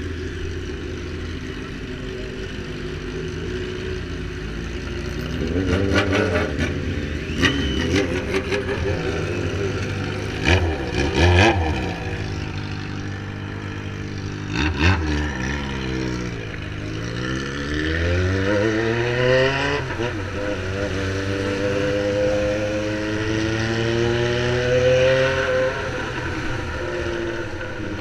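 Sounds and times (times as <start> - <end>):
motorcycle accelerating: 0.0 - 28.0
motorcycle engines revving: 0.0 - 28.0.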